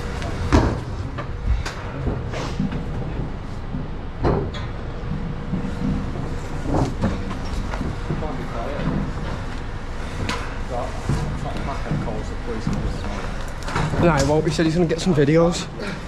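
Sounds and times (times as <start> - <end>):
footsteps and hands knocking on scaffolding: 0.0 - 15.5
steady low rumble: 0.0 - 16.0.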